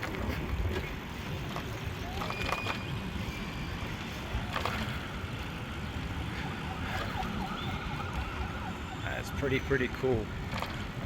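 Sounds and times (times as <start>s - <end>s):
bicycle rolling noise: 0.0s - 11.0s
wind rumble: 0.0s - 11.0s.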